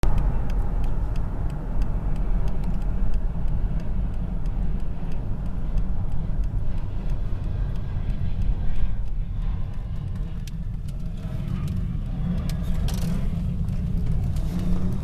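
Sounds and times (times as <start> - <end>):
car engine and road rumble: 0.0 - 15.0
faint regular ticking: 0.1 - 15.0.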